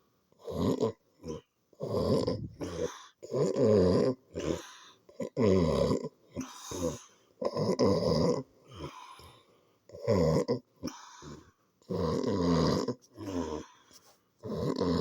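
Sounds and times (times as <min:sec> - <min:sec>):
quiet breaths: 0:00.0 - 0:15.0
man snoring: 0:00.4 - 0:09.3, 0:10.0 - 0:13.8, 0:14.4 - 0:15.0.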